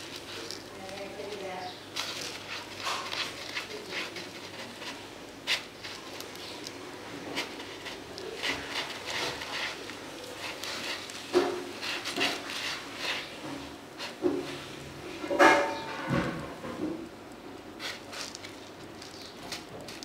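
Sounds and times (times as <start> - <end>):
kittens scratching in cat litter: 0.0 - 16.8, 17.7 - 20.0.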